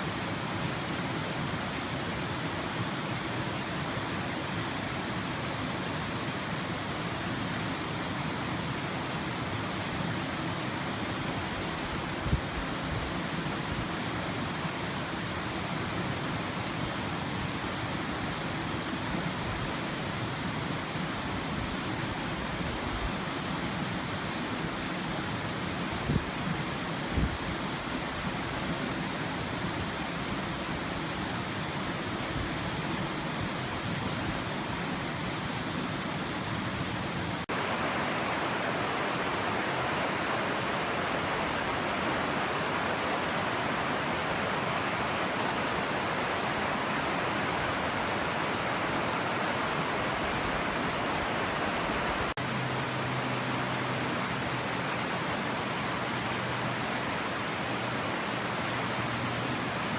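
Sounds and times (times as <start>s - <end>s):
rushing stream water: 0.0s - 59.9s.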